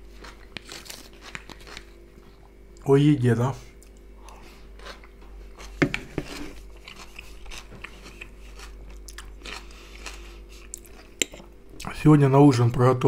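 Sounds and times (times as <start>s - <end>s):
crunchy chewing of salad: 0.0s - 2.8s, 3.7s - 11.9s.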